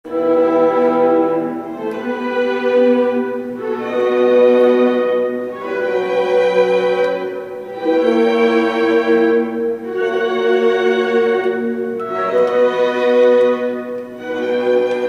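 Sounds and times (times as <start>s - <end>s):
slow string-like chords music: 0.1s - 15.0s.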